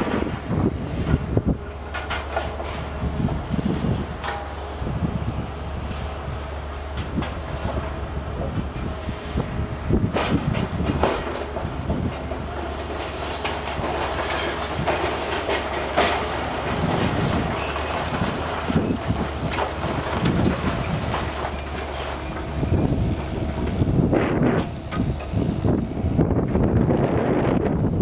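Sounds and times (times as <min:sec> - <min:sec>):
machinery knocks and clatter: 0:00.0 - 0:27.8
low engine rumble: 0:00.0 - 0:28.0.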